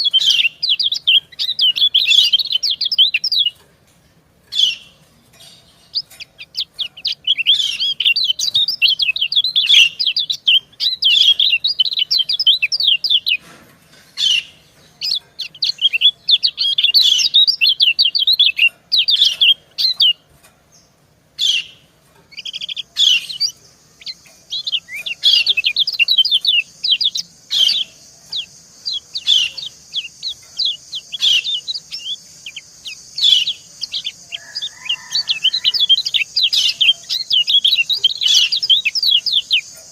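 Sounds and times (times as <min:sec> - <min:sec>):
bird chirping rapidly: 0:00.0 - 0:03.6, 0:04.5 - 0:13.4, 0:14.2 - 0:39.9
steady high hiss: 0:00.0 - 0:39.9.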